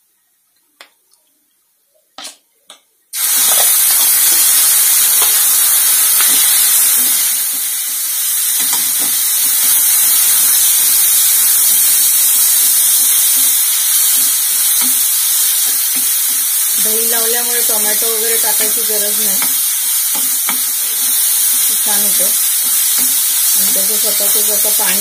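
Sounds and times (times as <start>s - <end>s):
chicken sizzling in oil: 3.2s - 25.0s.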